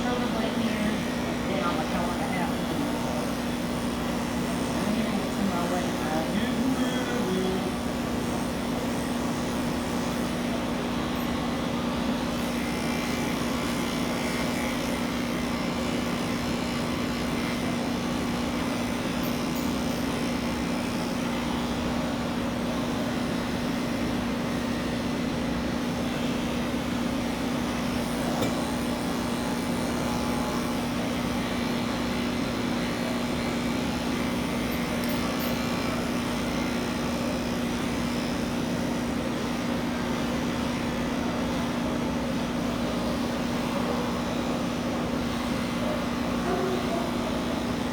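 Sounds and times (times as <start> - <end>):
electric clippers buzzing: 0.0 - 47.9.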